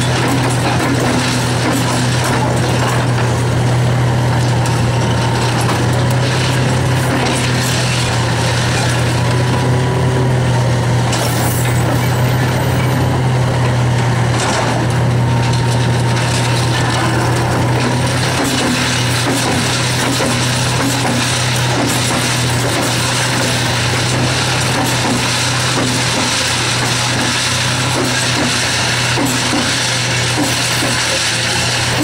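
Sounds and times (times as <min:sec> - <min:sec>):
concrete crunching and scraping: 0:00.0 - 0:32.0
excavator engine running: 0:00.0 - 0:32.0.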